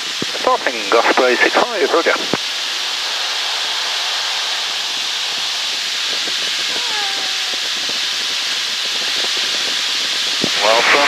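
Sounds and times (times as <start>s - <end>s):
light aircraft engine and airflow: 0.0s - 11.0s.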